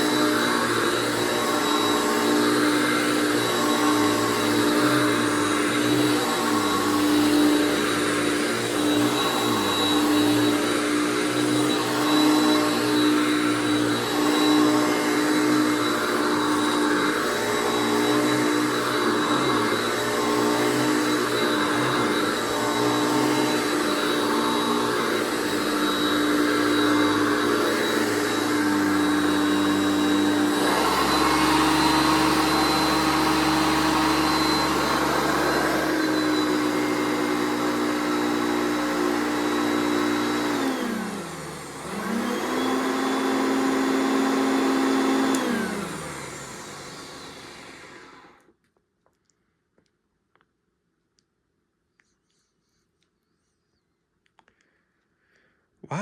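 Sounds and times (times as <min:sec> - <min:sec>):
upright vacuum cleaner running: 0:00.0 - 0:48.5.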